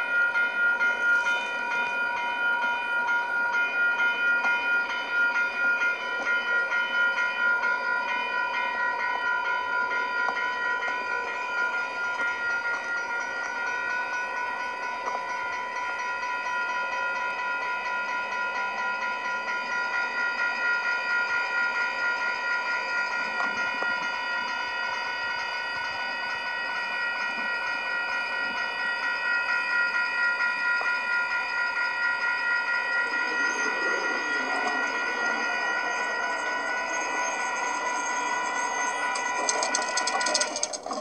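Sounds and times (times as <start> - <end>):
railroad crossing bell ringing: 0.0 - 41.0.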